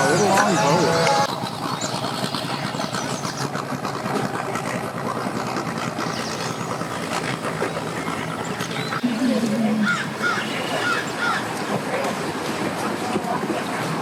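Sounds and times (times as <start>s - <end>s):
boat engine idling: 0.0s - 13.0s
water noise: 0.0s - 14.0s.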